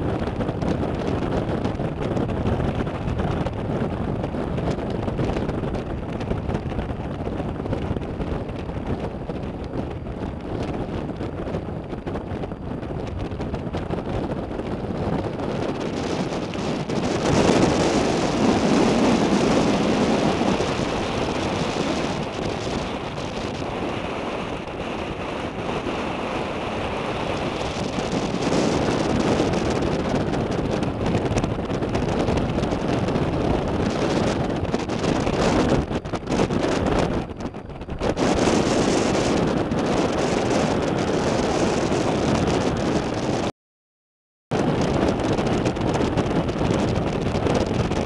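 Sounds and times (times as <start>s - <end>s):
wind buffeting microphone: 0.0s - 43.5s, 44.5s - 48.0s.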